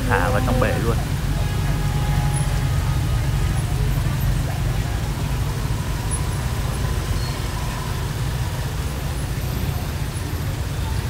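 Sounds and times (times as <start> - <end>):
outdoor market noise: 0.0 - 11.0
street traffic rumble: 0.0 - 11.0.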